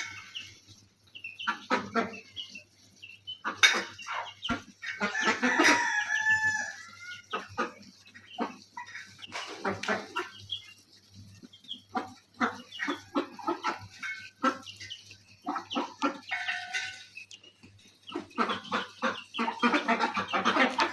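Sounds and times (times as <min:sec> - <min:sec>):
chicken calls: 0:00.0 - 0:20.9
chickens clucking: 0:00.0 - 0:20.9.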